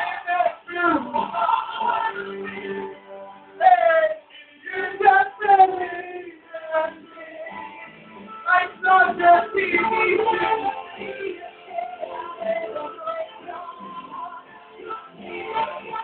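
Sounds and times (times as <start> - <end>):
female voice singing: 0.0 - 2.9, 3.6 - 7.5, 8.5 - 16.0.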